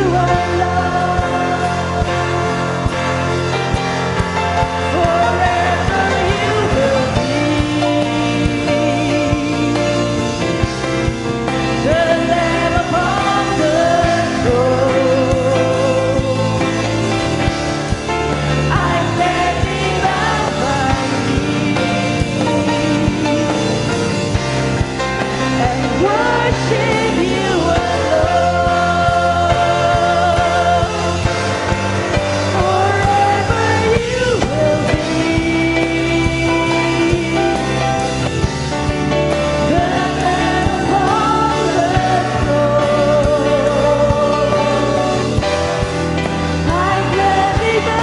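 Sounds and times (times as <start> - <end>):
band with steady drum beat: 0.0 - 48.0.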